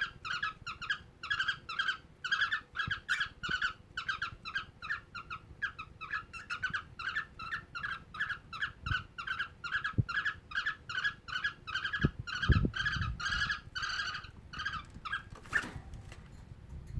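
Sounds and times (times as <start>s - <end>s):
cockatiel chirping rapidly: 0.0s - 15.3s.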